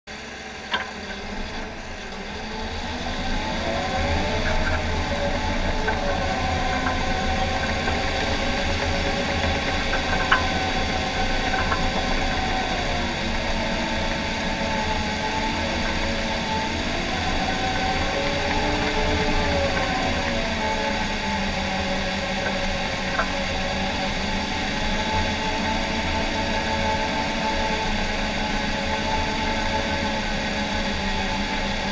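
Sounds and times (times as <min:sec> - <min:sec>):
diesel dozer engine under load: 0:00.1 - 0:31.9.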